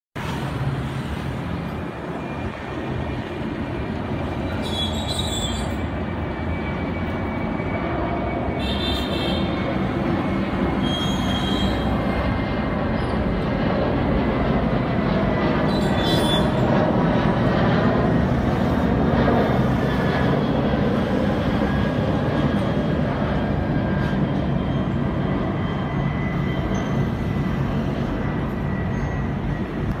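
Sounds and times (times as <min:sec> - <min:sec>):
jet engines roaring: 0:00.2 - 0:30.0.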